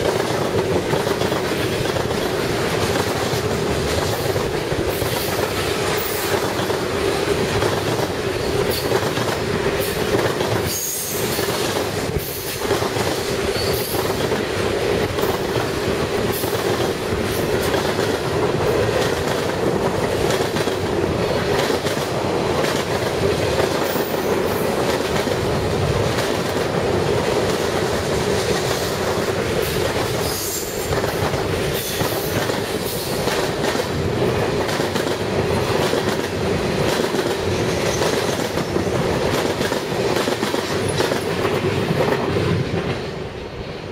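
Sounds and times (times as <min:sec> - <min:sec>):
train cars rumbling past: 0:00.0 - 0:43.9.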